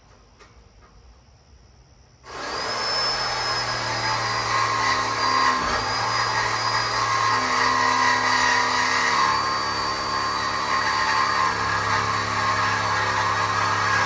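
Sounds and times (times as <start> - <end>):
reciprocating saw cutting metal pipe: 2.3 - 14.0.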